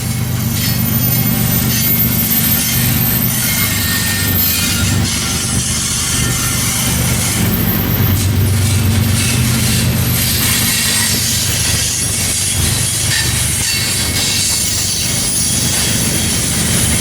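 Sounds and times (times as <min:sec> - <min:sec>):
freight train rumbling on rails: 0:00.0 - 0:17.0
high wheel squeals: 0:00.0 - 0:17.0.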